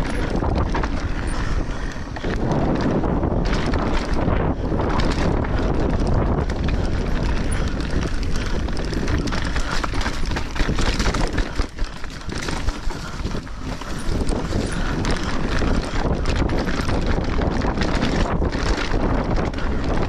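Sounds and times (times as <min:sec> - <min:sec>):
bike clattering over bumps: 0:00.0 - 0:20.0
wind rumble on microphone: 0:00.0 - 0:20.0
tyres crunching over dirt and rock: 0:02.2 - 0:19.7.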